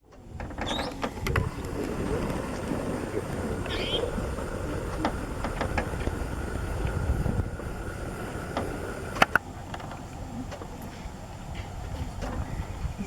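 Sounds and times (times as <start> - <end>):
vehicle engine rumbling: 0.0 - 13.0
faint high whine: 0.4 - 13.0.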